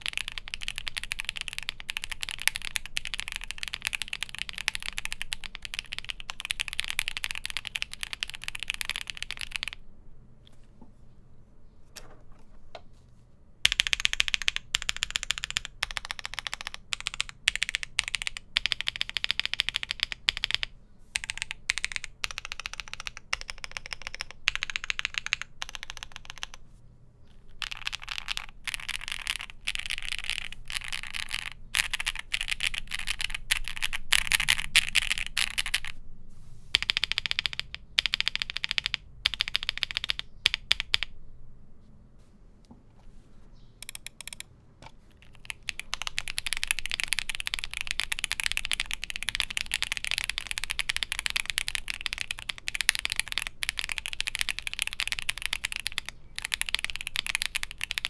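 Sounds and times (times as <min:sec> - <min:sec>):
mechanical keyboard typing: 0:00.0 - 0:09.8, 0:13.6 - 0:26.6, 0:27.5 - 0:36.0, 0:36.8 - 0:41.1, 0:43.8 - 0:44.5, 0:45.2 - 0:58.0.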